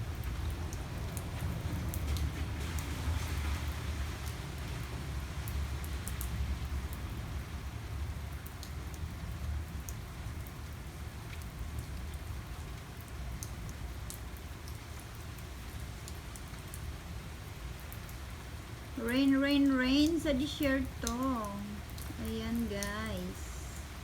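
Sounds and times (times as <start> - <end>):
heavy rain falling: 0.0 - 24.0
raindrops ticking close by: 0.0 - 24.0.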